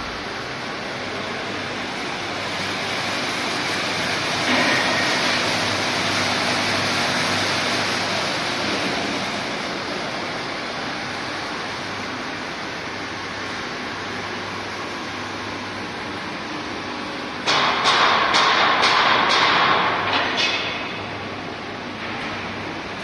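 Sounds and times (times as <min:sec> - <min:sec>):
faint pump and motor hum: 0:00.0 - 0:23.0.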